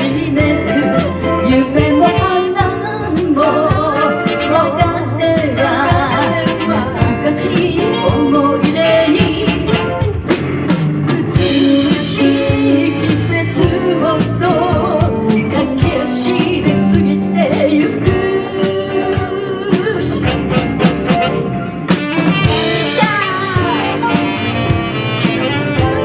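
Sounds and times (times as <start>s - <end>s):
lead melody with bending notes: 0.0s - 26.0s
live band playing pop: 0.0s - 26.0s.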